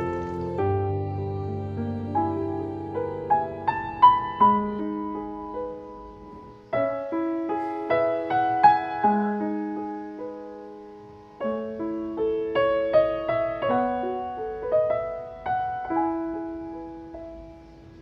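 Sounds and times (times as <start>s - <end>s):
gentle solo piano music: 0.0s - 18.0s.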